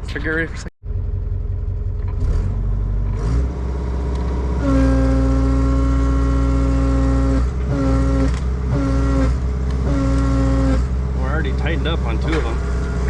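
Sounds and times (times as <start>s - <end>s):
excavator engine running: 0.0s - 13.0s
hydraulic whine: 1.8s - 13.0s.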